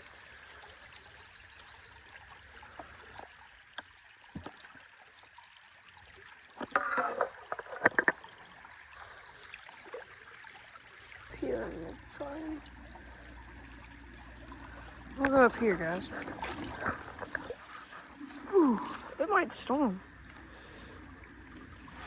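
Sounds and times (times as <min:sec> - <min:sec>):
creek water trickling: 0:00.0 - 0:22.0.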